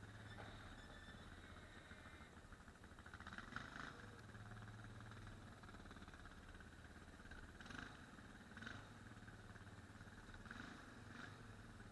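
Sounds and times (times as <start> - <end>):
atv engine idling: 0.0 - 11.9.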